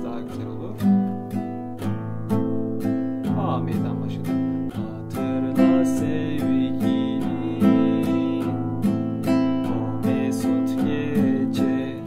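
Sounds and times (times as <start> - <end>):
guitar strumming: 0.0 - 12.0.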